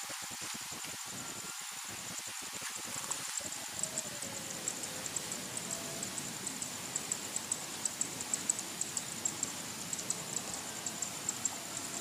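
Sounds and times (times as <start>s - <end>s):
faint outdoor hiss: 0.0s - 12.0s
insect chirping: 0.0s - 12.0s.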